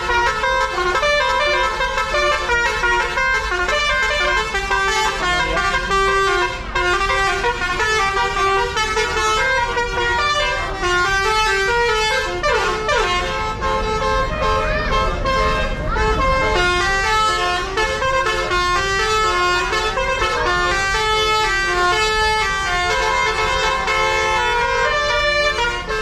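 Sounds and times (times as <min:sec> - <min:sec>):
bus horn playing a melody: 0:00.0 - 0:26.0.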